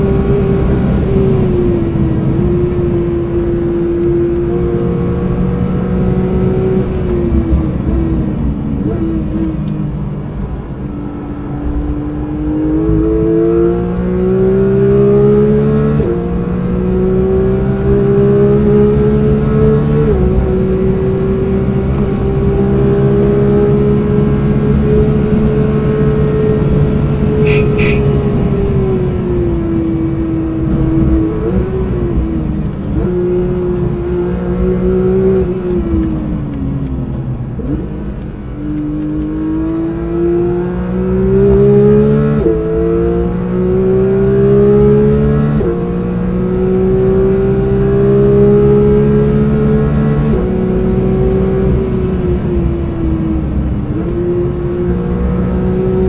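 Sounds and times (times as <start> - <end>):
car engine at full throttle: 0.0 - 56.0
engine rev blips on downshifts: 11.1 - 56.0.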